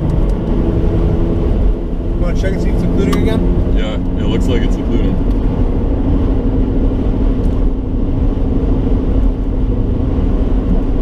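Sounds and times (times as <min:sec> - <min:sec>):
car engine drone: 0:00.0 - 0:11.0
constant low hum: 0:00.0 - 0:11.0
road noise: 0:00.0 - 0:11.0.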